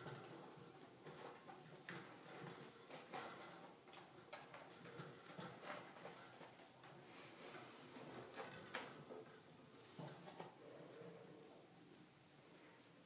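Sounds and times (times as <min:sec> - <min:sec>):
rat claws tapping and scratching: 0:00.0 - 0:10.6.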